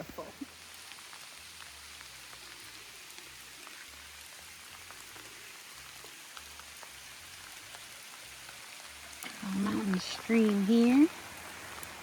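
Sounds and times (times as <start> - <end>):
raindrops ticking: 0.0 - 12.0
steady rain in a forest: 0.0 - 12.0.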